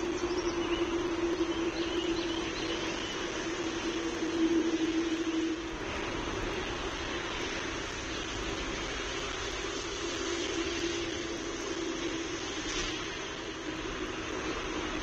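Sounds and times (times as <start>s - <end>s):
low steady hum: 0.0s - 15.0s
rushing background noise: 0.0s - 15.0s.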